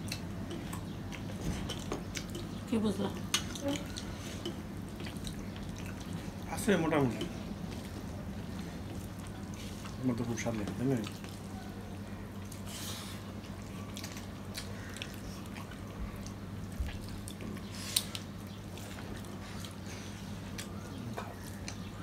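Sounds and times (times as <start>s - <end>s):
wet mouth eating sounds: 0.0s - 10.0s, 11.0s - 22.0s
steady low hum: 0.0s - 22.0s.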